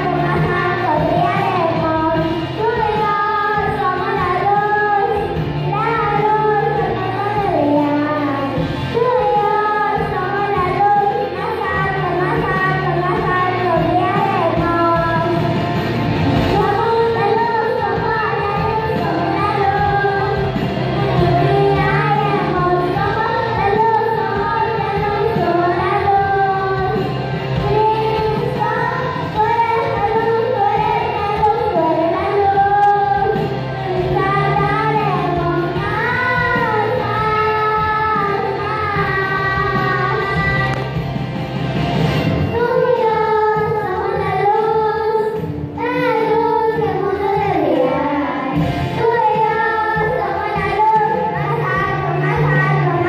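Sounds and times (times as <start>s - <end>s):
girls singing into microphones: 0.0s - 41.2s, 42.2s - 53.0s
music accompaniment with bass: 0.0s - 53.0s.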